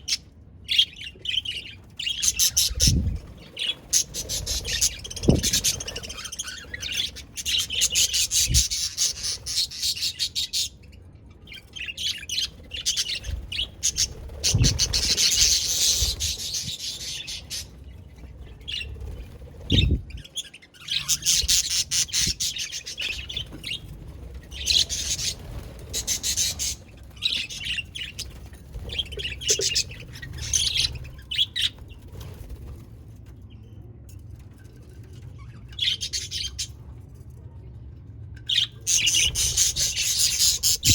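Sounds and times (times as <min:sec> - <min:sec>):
budgerigars chirping and chattering: 0:00.0 - 0:10.9, 0:11.5 - 0:17.9, 0:18.6 - 0:31.9, 0:38.5 - 0:40.9.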